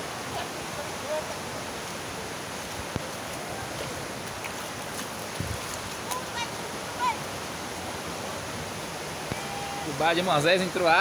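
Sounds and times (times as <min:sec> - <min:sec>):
falling rain: 0:00.0 - 0:11.0
floodwater rushing: 0:00.0 - 0:11.0.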